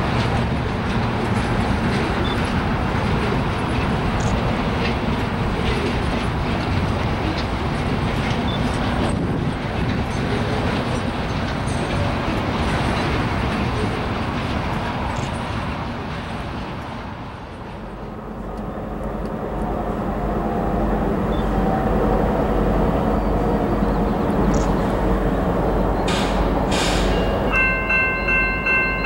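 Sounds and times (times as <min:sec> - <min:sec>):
diesel locomotive engines droning: 0:00.0 - 0:29.0
freight cars rolling on rails: 0:00.0 - 0:29.0.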